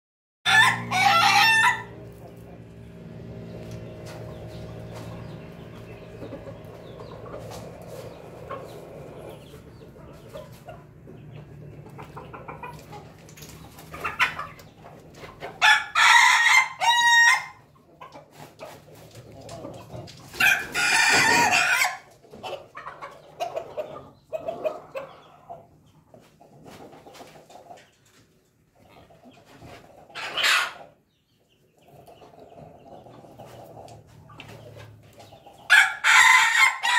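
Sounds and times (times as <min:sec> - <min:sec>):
roosters crowing with stuttering notes: 0:00.4 - 0:25.8, 0:26.6 - 0:31.1, 0:31.7 - 0:36.9
hens clucking softly: 0:01.1 - 0:15.7, 0:17.6 - 0:35.8.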